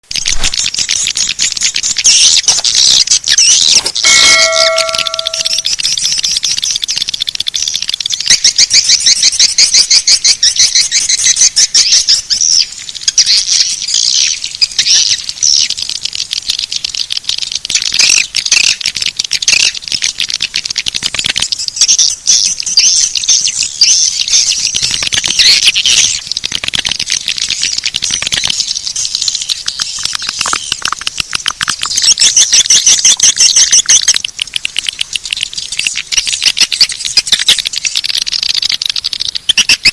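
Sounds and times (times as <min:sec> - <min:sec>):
high chittering bird chirps: 0:00.1 - 0:18.7, 0:21.4 - 0:26.4, 0:27.1 - 0:30.9, 0:31.6 - 0:38.5.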